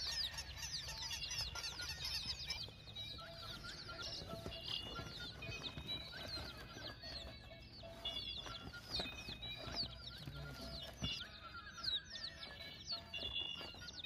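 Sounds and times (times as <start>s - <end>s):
birds giving high peeps: 0.0s - 14.0s.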